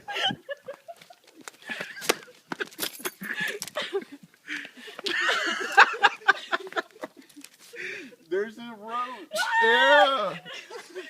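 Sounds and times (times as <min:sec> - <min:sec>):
people laughing: 0:00.0 - 0:08.2, 0:09.3 - 0:11.0.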